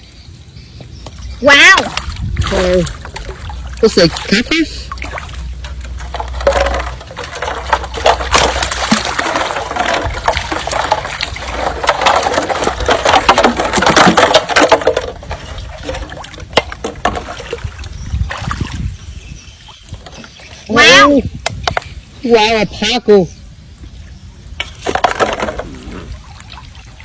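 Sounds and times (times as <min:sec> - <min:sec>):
water splashing and sloshing: 0:00.8 - 0:22.9, 0:23.5 - 0:27.0.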